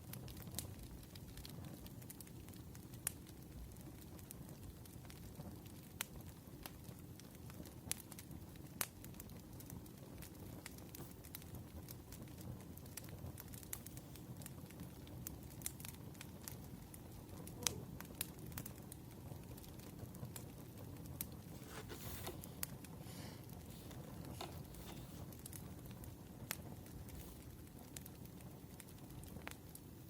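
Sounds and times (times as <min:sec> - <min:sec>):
logs crackling and popping: 0:00.0 - 0:30.0
low rumble of flames: 0:00.0 - 0:30.0.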